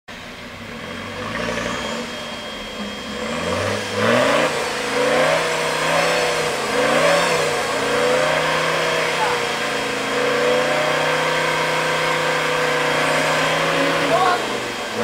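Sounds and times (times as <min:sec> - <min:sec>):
off-road vehicle engine revving: 0:00.1 - 0:15.0.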